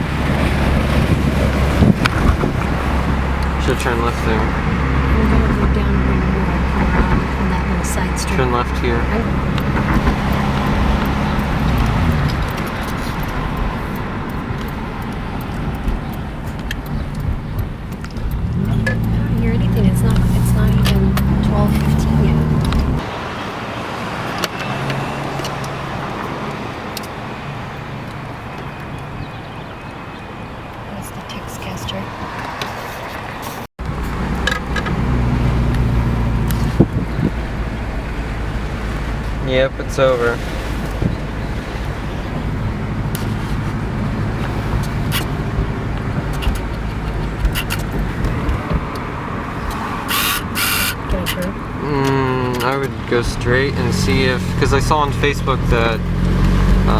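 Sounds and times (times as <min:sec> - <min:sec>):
car engine hum: 0:00.0 - 0:56.9
road noise: 0:00.0 - 0:56.9.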